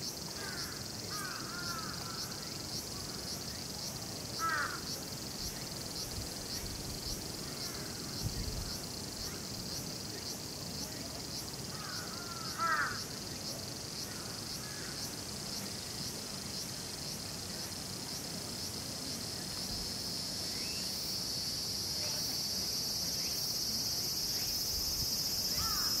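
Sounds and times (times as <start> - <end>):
cicadas singing: 0.0 - 26.0.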